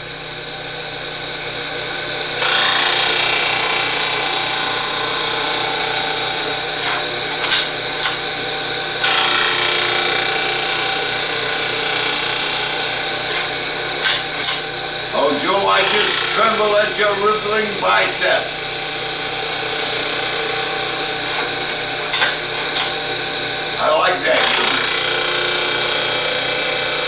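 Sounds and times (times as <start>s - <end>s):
disc sander grinding metal: 1.6s - 27.0s.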